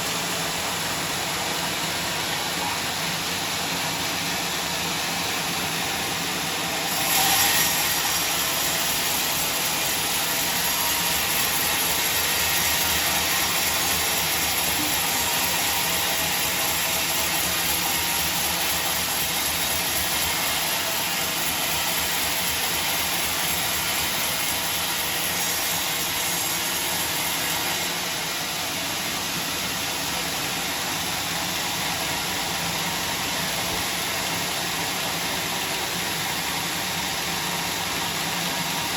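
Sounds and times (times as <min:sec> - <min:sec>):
sawmill machine hissing: 0:00.0 - 0:38.9.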